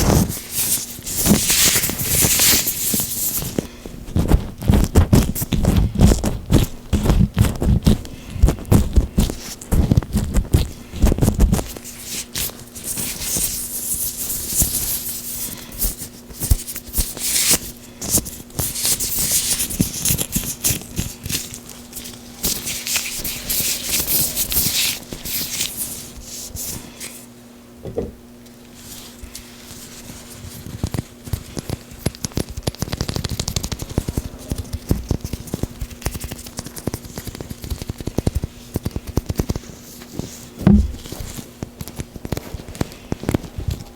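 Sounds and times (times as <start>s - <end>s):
gloved hands rubbing and squishing: 0.0s - 27.3s, 28.7s - 43.9s.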